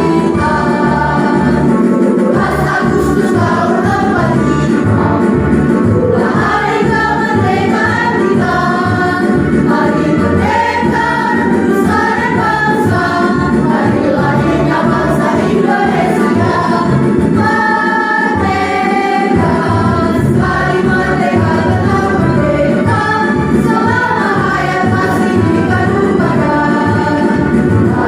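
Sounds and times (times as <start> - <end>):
choir singing: 0.0 - 5.2, 5.8 - 28.0
instrumental accompaniment: 0.0 - 28.0.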